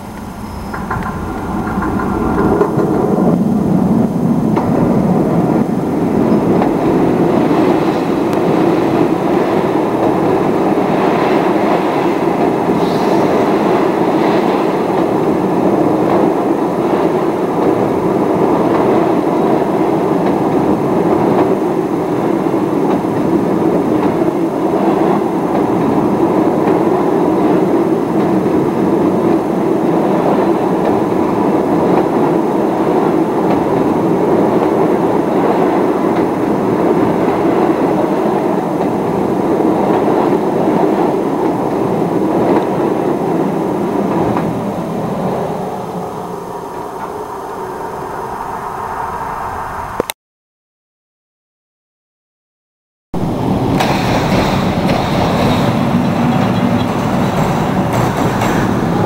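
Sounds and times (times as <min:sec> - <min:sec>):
train wheels on rails overhead: 0:00.0 - 0:50.0, 0:53.2 - 0:59.0.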